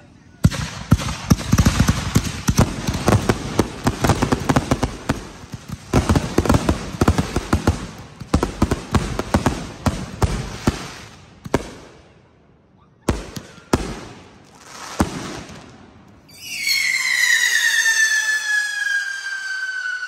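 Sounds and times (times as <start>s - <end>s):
firework bursts crackling: 0.4s - 12.0s, 13.1s - 20.0s.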